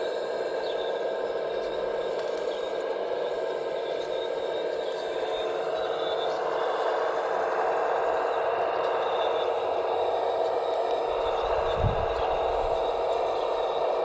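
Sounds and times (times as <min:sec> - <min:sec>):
hydraulic pump whine: 0:00.0 - 0:14.0.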